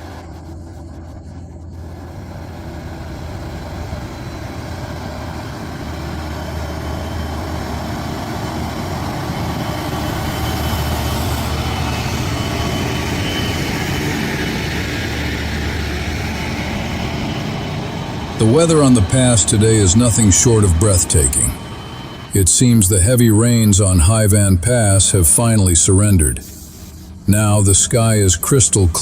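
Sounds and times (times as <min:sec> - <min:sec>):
heavy truck engine running: 0:00.0 - 0:29.0
low hum: 0:00.0 - 0:29.0.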